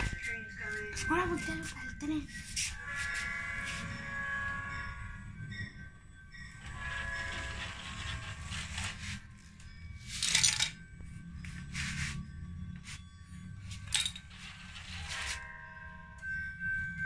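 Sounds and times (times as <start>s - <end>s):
toy train humming: 0.0s - 17.0s.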